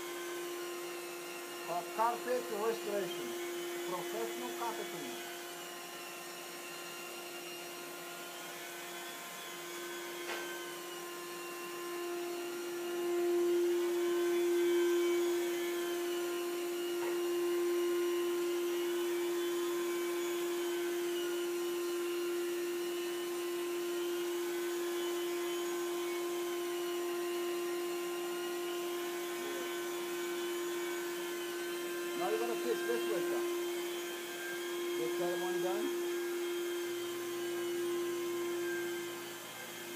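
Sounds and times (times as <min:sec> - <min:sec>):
carpet extraction wand whine: 0:00.0 - 0:39.9.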